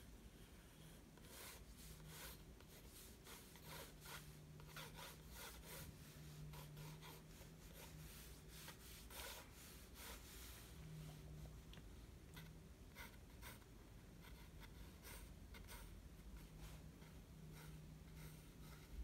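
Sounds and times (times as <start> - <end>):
pencil scratching on paper: 0.3 - 11.2, 12.3 - 19.0.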